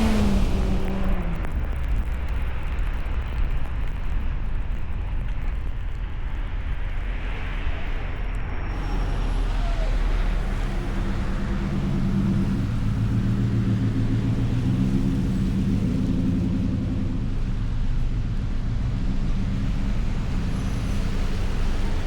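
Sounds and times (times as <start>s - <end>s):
engine hum: 0.0s - 22.0s
low rumble: 0.0s - 22.0s
tyre and road noise: 0.0s - 22.0s.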